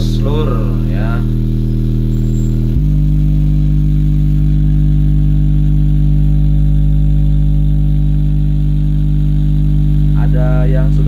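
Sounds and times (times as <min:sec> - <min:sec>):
subwoofer deep buzzing tone: 0:00.0 - 0:11.0.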